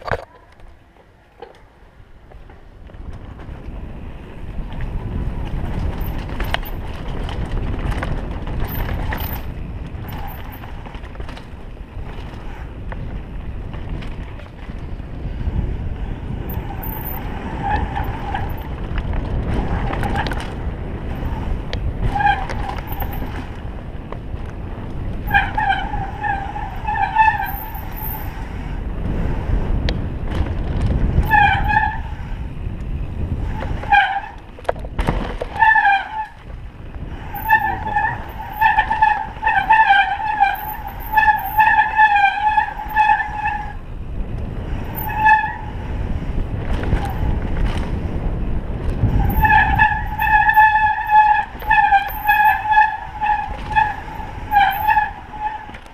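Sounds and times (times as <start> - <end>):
bike tyres rumbling and rattling: 0.0 - 55.9
brakes squealing: 0.0 - 55.9
wind rushing on microphone: 1.9 - 55.9.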